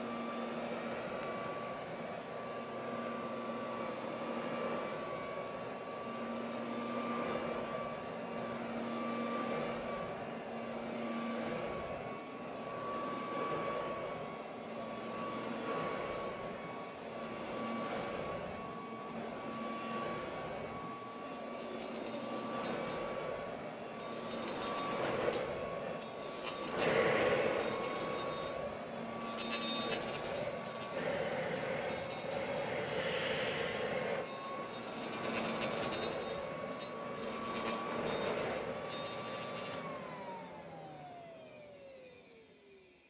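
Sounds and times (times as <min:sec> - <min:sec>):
hand vacuum running: 0:00.0 - 0:42.8.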